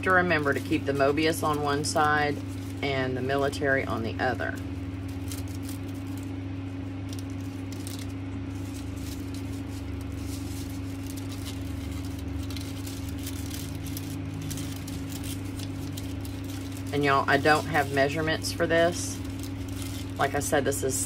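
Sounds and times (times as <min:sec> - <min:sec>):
ribbon rustling and crinkling: 0:00.0 - 0:21.0
steady low hum: 0:00.0 - 0:21.0.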